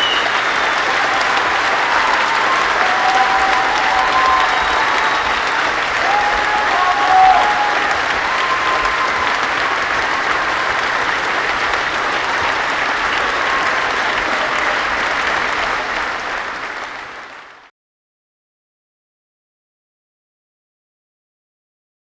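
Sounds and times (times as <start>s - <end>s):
crowd clapping: 0.0s - 17.7s
people cheering: 0.0s - 17.7s.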